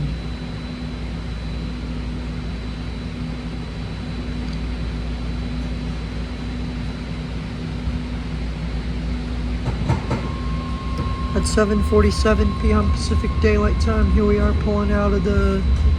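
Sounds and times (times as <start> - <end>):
faint high whine: 0.0 - 15.9
low droning tones: 0.0 - 15.9
train car ventilation hum: 0.0 - 15.9.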